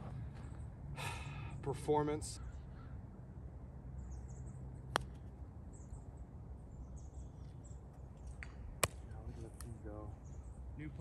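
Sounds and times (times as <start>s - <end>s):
low outdoor background noise: 0.0s - 11.0s
faint bird chirping: 0.1s - 11.0s.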